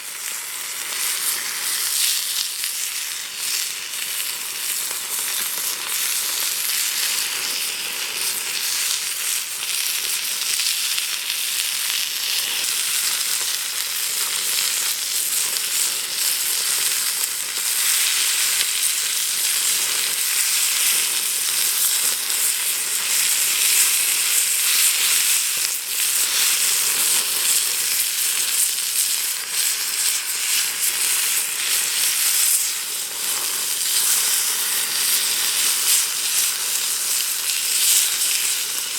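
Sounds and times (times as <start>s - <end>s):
steak sizzling on iron plate: 0.0s - 38.9s.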